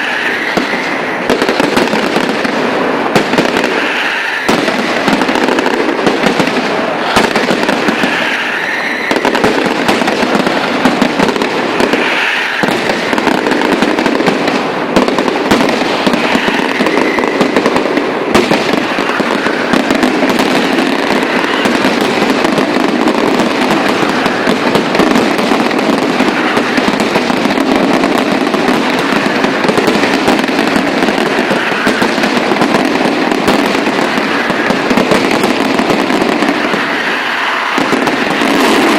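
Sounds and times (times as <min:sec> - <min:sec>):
fireworks crackling and popping: 0:00.0 - 0:38.9
fireworks whistling: 0:00.0 - 0:38.9.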